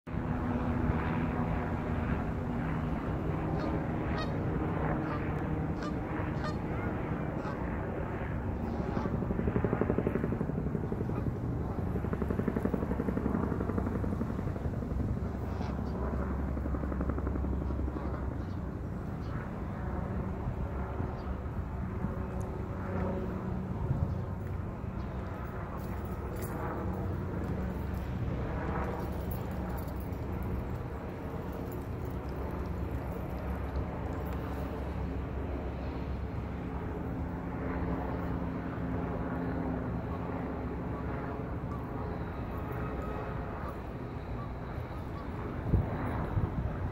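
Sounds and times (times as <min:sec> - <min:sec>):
distant engine droning: 0:00.1 - 0:46.9
helicopter rotor chop: 0:00.1 - 0:46.9.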